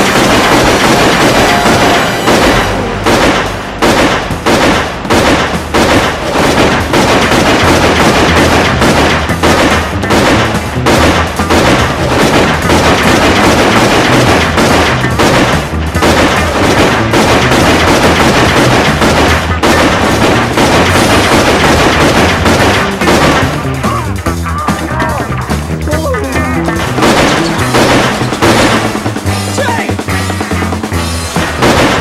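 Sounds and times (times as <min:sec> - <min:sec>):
pistol gunshots: 0:00.0 - 0:24.2, 0:26.6 - 0:29.2, 0:31.4 - 0:32.0.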